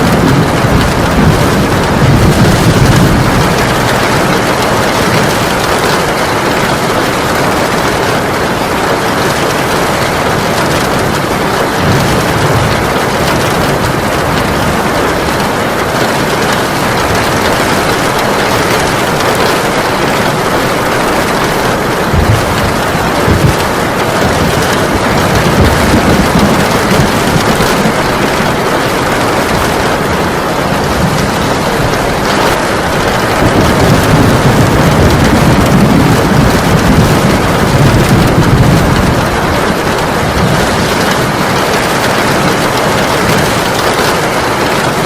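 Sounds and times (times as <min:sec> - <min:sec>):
heavy rain falling: 0:00.0 - 0:45.0
low thunder rumbles: 0:00.0 - 0:45.0.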